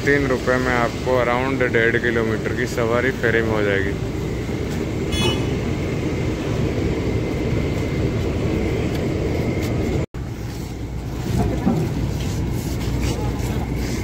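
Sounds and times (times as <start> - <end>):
ferry engines rumbling: 0.0 - 14.0.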